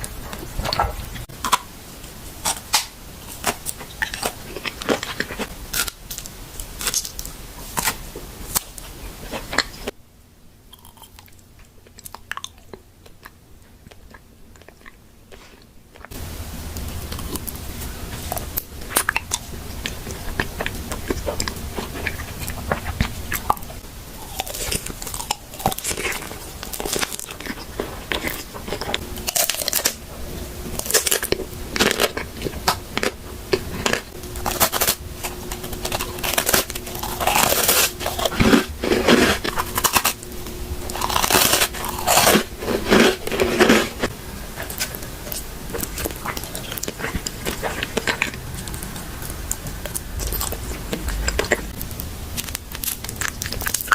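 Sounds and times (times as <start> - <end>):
crunching bites and chewing: 2.4 - 10.0, 10.7 - 53.9.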